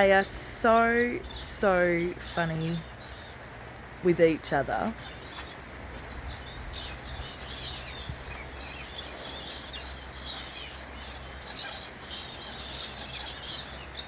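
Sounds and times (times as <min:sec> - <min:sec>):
flock of birds chattering: 0:00.0 - 0:14.0
low steady rumble: 0:00.0 - 0:14.0.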